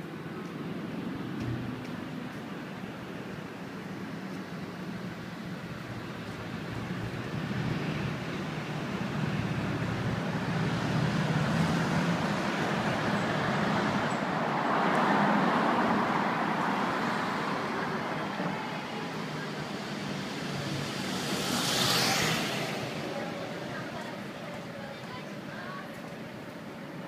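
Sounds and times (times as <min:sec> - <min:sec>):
passing vehicles: 0:00.0 - 0:27.0.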